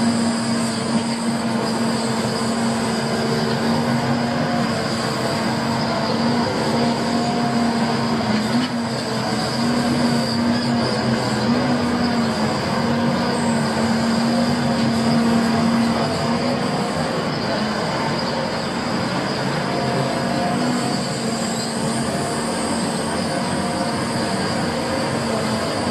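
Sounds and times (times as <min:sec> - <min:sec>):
thin high whine: 0:00.0 - 0:25.9
truck engine hum: 0:00.0 - 0:25.9.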